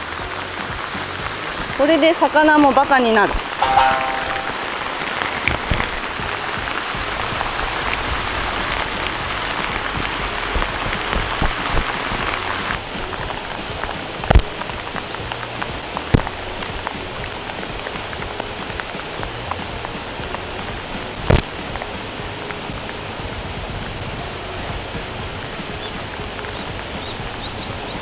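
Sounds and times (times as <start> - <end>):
heavy rain on river: 0.0 - 28.0.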